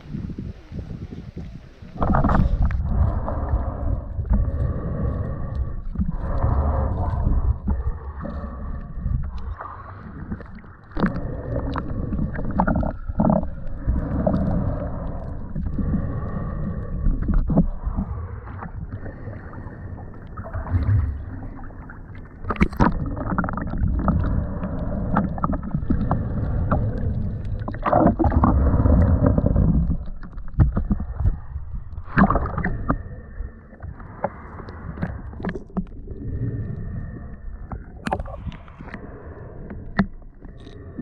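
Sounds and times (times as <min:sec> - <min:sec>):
low rumble: 0:00.0 - 0:41.0
water sloshing and splashing: 0:00.0 - 0:41.0.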